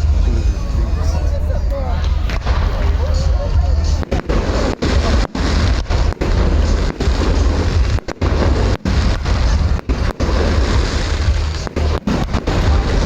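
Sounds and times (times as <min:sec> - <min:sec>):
fireworks booms and crackles: 0:00.0 - 0:13.0.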